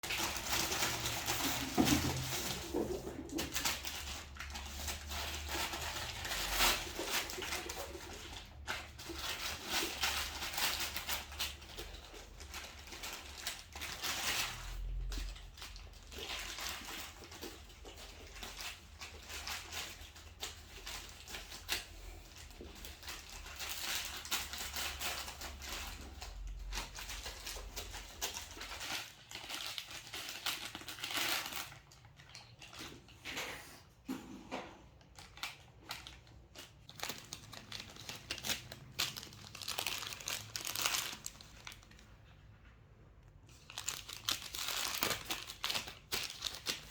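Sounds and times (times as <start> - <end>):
bag crinkling and tearing: 0.0 - 33.2, 35.0 - 42.1, 43.5 - 46.9.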